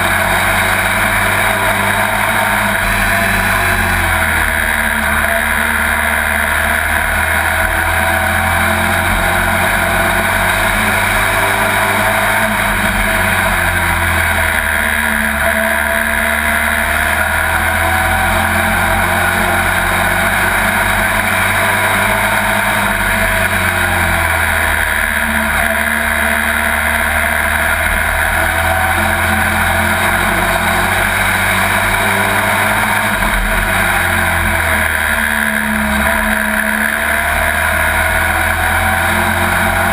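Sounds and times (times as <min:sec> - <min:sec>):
race truck engine running hard: 0:00.0 - 0:39.9.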